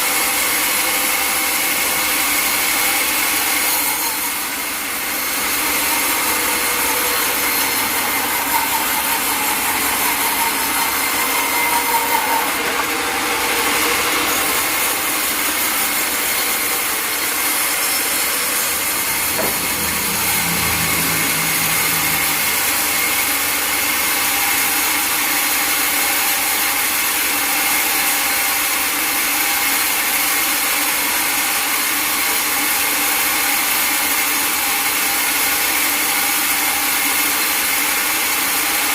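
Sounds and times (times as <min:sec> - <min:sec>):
saw blade cutting log: 0:00.0 - 0:38.9.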